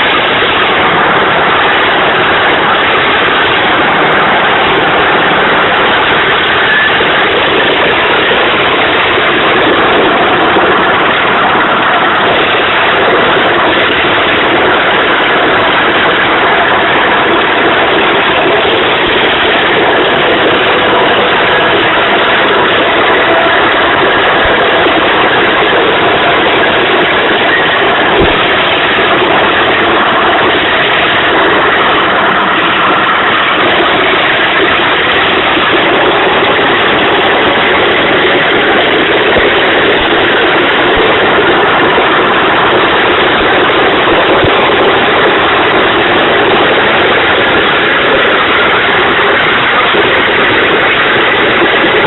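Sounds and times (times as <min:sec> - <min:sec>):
tractor engine droning: 0:00.0 - 0:52.0.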